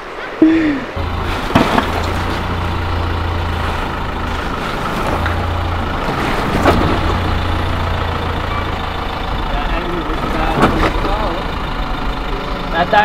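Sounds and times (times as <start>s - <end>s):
car engine running at low revs: 1.0s - 13.0s.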